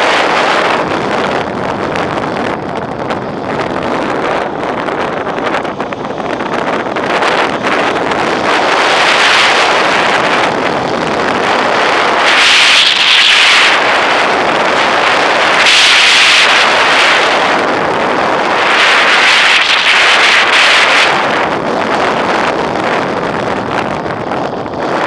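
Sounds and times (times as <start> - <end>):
wind rushing over camera: 0.0 - 25.0.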